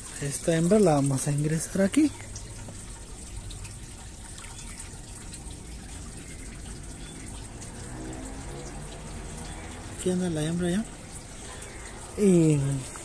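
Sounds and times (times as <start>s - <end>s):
water trickling into a tub: 0.0s - 13.0s.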